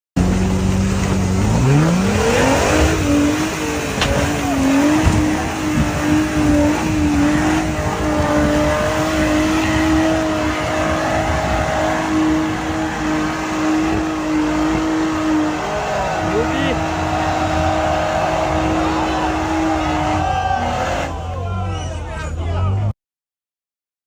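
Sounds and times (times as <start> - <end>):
road noise: 0.2 - 22.9
truck engine revving: 0.2 - 22.9.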